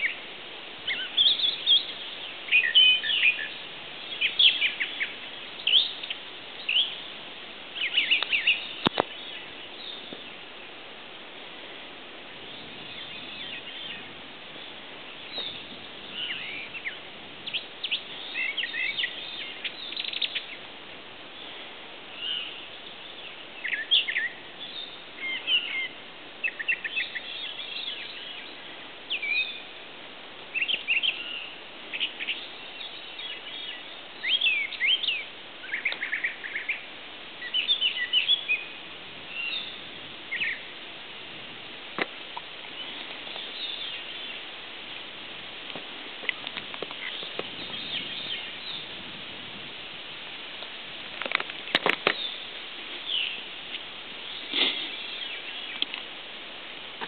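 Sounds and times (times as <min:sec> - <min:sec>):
songbirds singing and chirping: 0:00.0 - 0:10.9, 0:11.6 - 0:57.0
steady hiss: 0:00.0 - 0:57.0.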